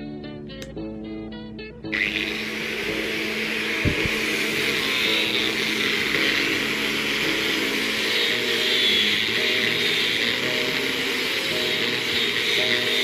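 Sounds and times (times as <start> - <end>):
angle grinder sanding wood: 1.9 - 13.0.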